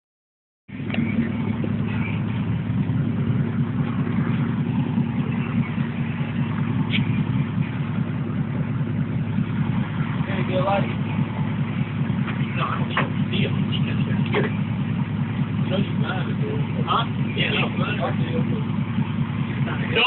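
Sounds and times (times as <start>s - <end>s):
car engine running: 0.7s - 20.0s.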